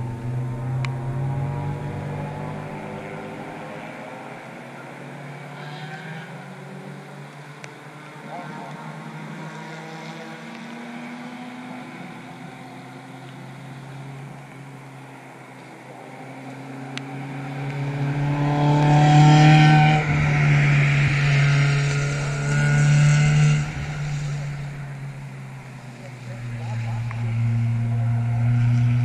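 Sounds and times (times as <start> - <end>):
race car passing on wet track: 0.0 - 29.0.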